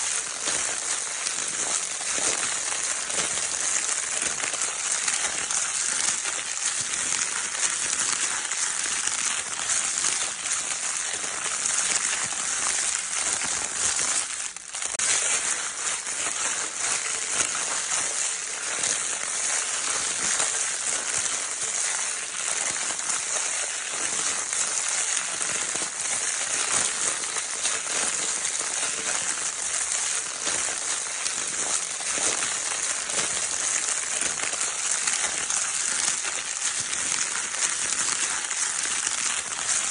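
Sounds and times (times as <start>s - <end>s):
crinkle paper toy crackling: 0.0s - 39.9s.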